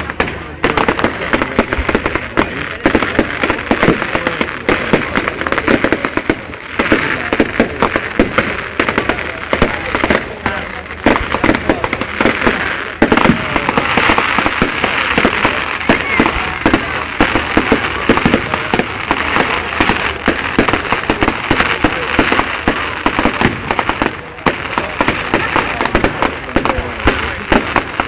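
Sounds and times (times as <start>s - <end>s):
crackle of bursting fireworks: 0.0s - 28.0s
fireworks bangs: 0.0s - 28.0s.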